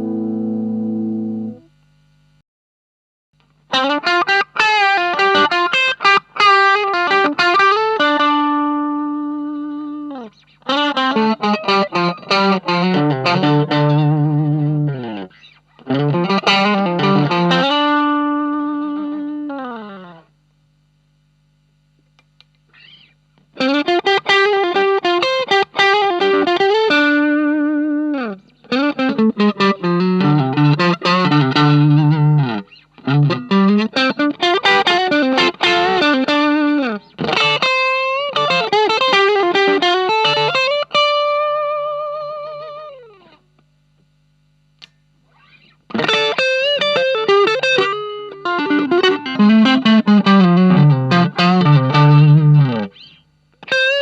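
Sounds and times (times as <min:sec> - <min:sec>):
distorted electric guitar riffs: 0:00.0 - 0:02.4, 0:03.4 - 0:54.0.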